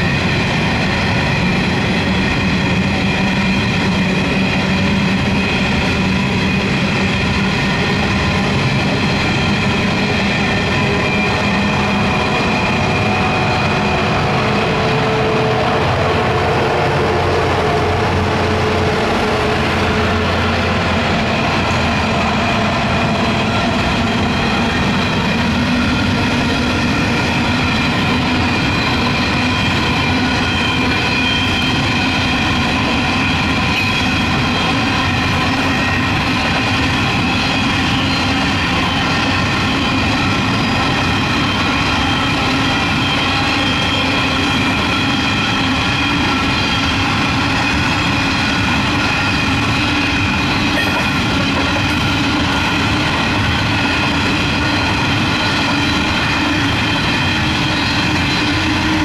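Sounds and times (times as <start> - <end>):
train wagons rattling on rails: 0.0 - 59.0.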